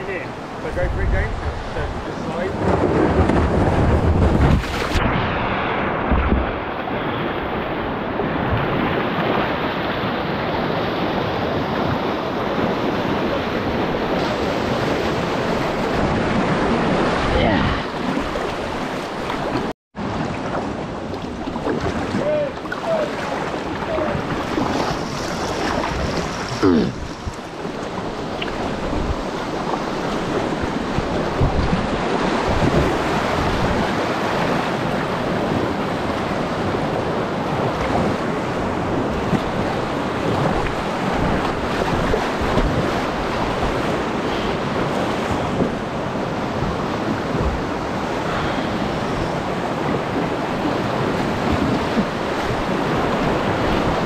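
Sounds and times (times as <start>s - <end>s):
rushing whitewater: 4.7s - 54.0s.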